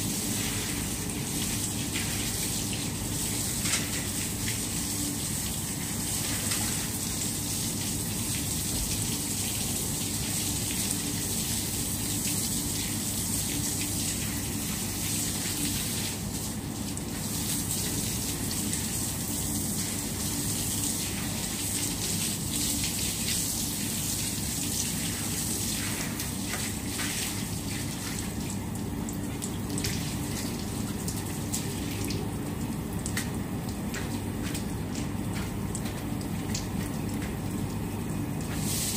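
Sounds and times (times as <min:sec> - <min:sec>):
water gushing from a hose: 0:00.0 - 0:38.9
water splashing on tiles: 0:00.2 - 0:20.0, 0:20.8 - 0:37.8, 0:38.4 - 0:38.9.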